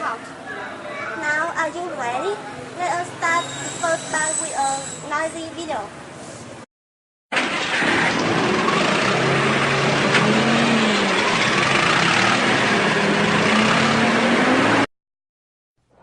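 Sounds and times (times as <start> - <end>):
loud road traffic: 0.0 - 6.6, 7.3 - 14.9.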